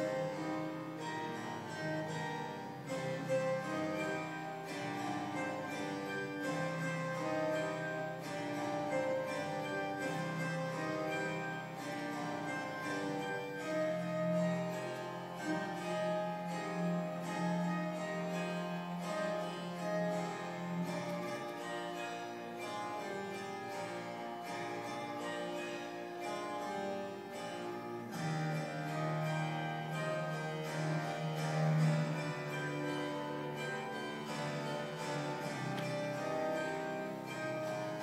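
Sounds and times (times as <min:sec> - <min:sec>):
harpsichord running passages: 0:00.0 - 0:38.0
orchestra playing: 0:00.0 - 0:38.0.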